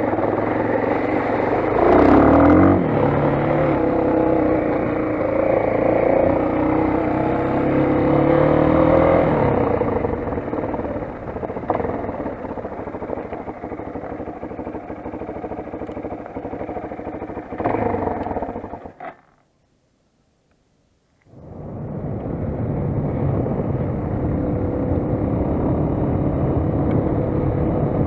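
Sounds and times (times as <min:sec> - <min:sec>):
motorcycle engine running: 0:00.0 - 0:19.2, 0:21.4 - 0:28.0.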